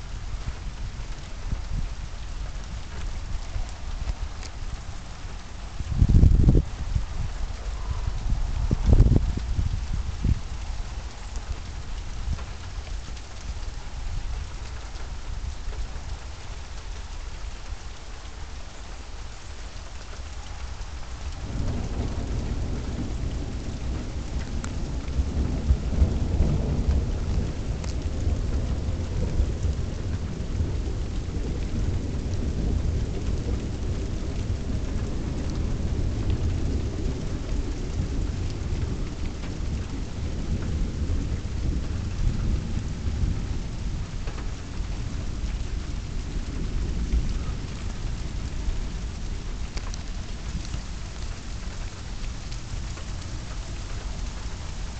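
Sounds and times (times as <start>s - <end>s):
steady rain falling: 0.0s - 54.9s
thunder rumbling: 0.0s - 54.9s.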